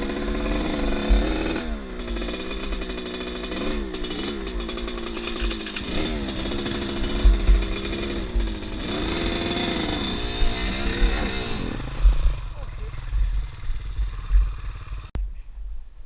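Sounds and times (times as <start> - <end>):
wind buffeting: 0.0 - 15.1
motorcycle engine revving: 0.0 - 15.2.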